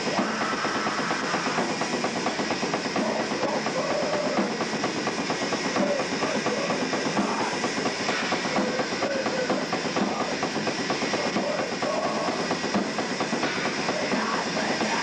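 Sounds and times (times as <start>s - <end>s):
distorted electric guitars: 0.0s - 15.0s
fast dense drumming: 0.0s - 15.0s.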